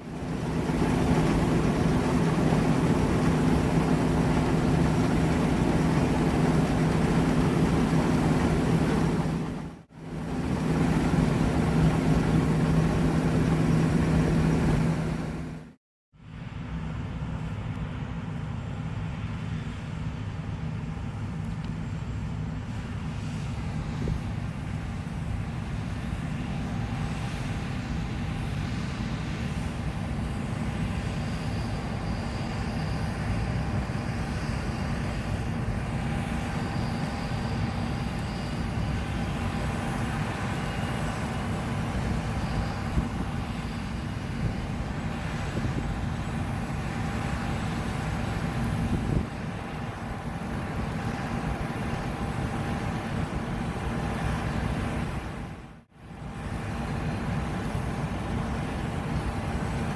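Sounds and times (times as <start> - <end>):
combine harvester drone: 0.0 - 15.8, 16.4 - 59.9
faint steady whine: 0.0 - 15.8, 26.6 - 59.9.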